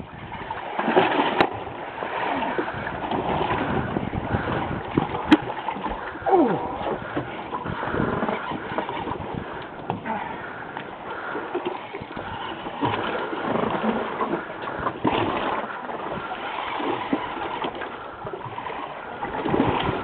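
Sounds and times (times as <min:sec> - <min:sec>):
water slapping against boat hull: 0:00.0 - 0:20.0.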